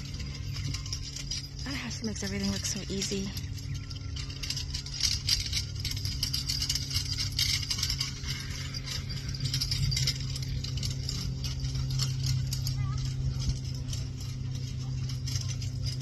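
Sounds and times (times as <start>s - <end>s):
harness jingling and rattling: 0.0s - 16.0s
low hum: 0.0s - 16.0s
ponies' hooves trotting: 0.0s - 16.0s.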